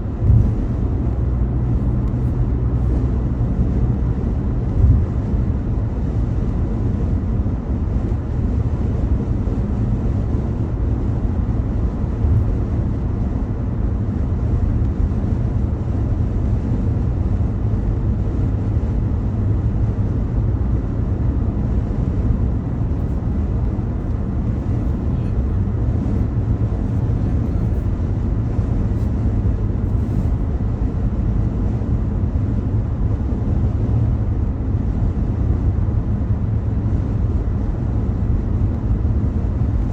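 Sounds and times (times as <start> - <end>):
car driving at speed: 0.0 - 39.9.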